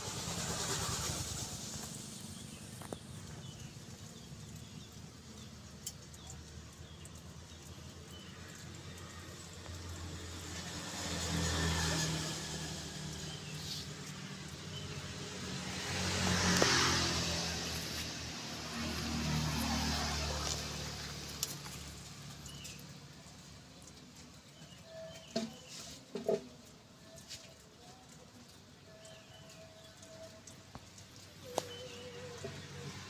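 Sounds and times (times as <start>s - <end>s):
vehicle engine running: 0.0s - 28.2s.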